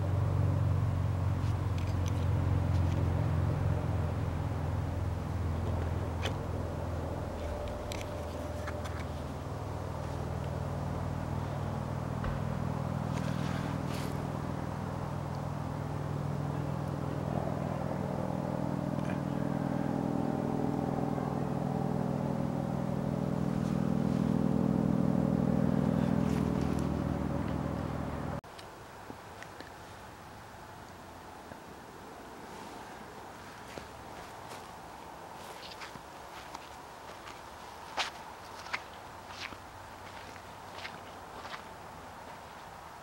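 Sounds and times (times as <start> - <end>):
low engine hum: 0.0 - 43.0.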